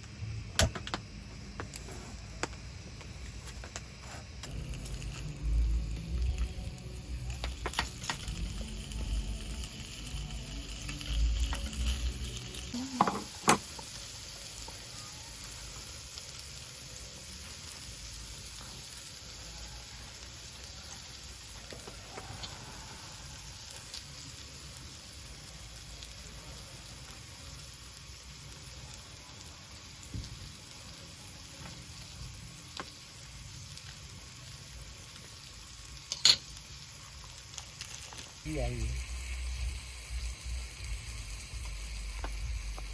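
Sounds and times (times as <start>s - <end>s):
food sizzling on a grill: 1.1s - 42.9s.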